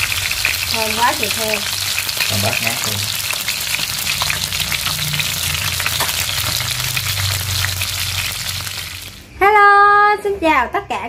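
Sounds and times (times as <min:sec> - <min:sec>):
fish sizzling in hot oil: 0:00.0 - 0:09.3.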